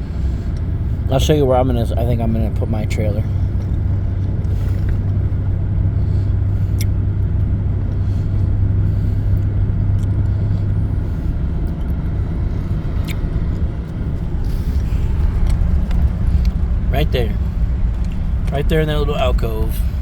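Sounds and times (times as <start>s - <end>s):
road noise rumbling: 0.0s - 20.0s
vehicle engine droning: 0.0s - 20.0s.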